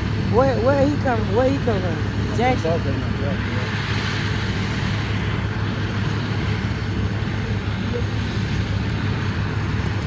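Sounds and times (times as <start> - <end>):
road and wind noise: 0.0 - 10.0
vehicle engine hum: 0.0 - 10.0.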